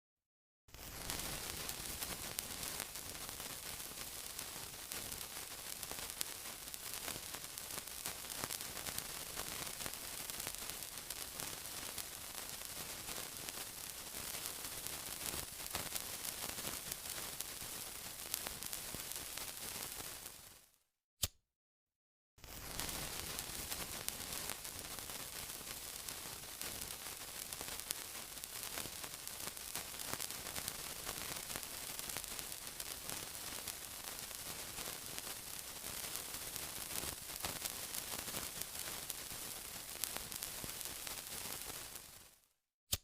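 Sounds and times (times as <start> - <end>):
sizzling with crackles and pops: 0.7 - 20.8, 22.4 - 43.0.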